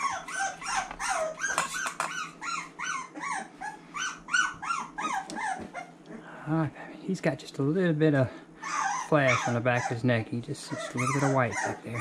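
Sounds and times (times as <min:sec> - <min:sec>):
puppy whining: 0:00.0 - 0:06.3, 0:08.6 - 0:12.0.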